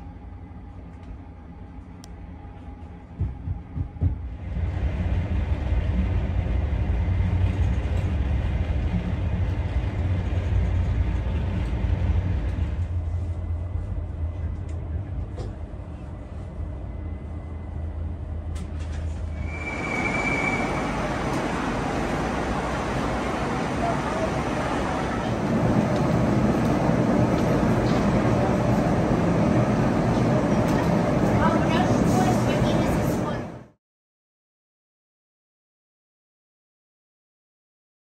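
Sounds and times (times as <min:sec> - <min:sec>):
train rumbling inside carriage: 0:00.0 - 0:33.8.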